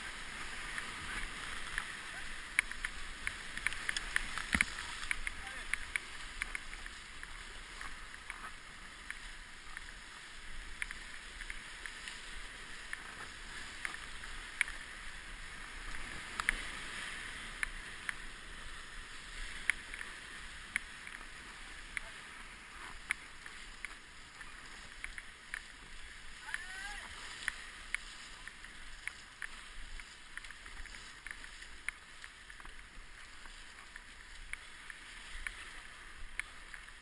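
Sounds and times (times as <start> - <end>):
paddle splashes: 0.0 - 37.0
rapids rushing: 0.0 - 37.0.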